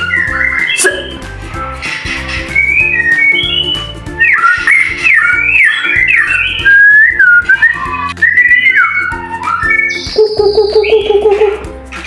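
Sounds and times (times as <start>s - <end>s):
bird singing whistled phrases: 0.0s - 1.3s, 1.9s - 11.6s
background music with steady beat: 0.0s - 12.0s.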